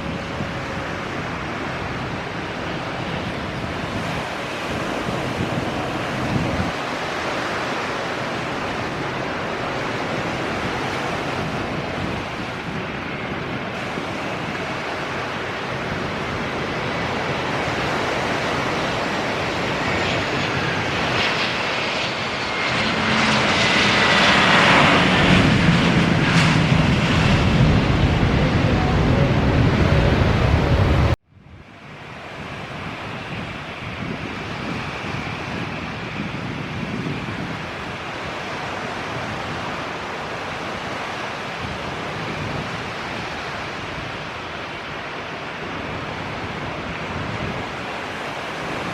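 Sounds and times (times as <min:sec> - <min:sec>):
airliner passing overhead: 0:00.0 - 0:48.9
jet engine whine: 0:00.0 - 0:48.9.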